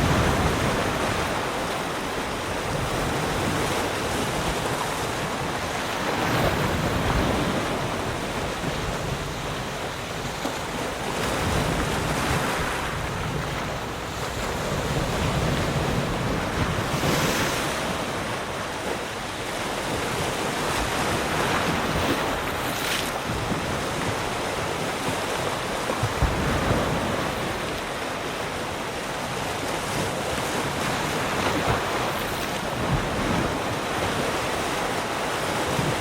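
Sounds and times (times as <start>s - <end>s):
waves breaking on shore: 0.0s - 36.0s.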